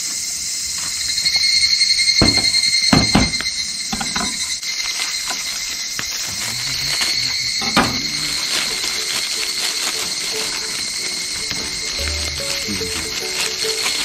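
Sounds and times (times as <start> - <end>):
insect chorus: 0.0 - 14.0
plastic bag rustling: 2.0 - 14.0.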